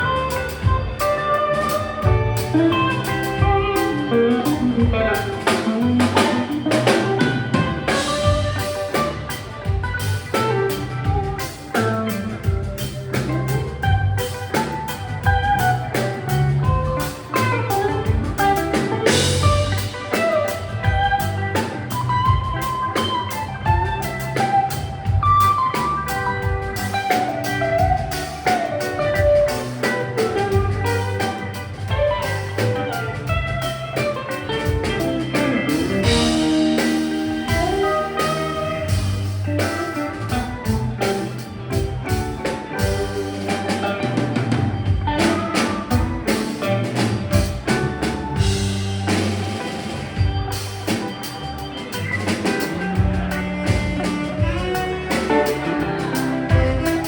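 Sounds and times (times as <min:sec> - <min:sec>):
lead guitar: 0:00.0 - 0:57.0
rock band playing: 0:00.0 - 0:57.0.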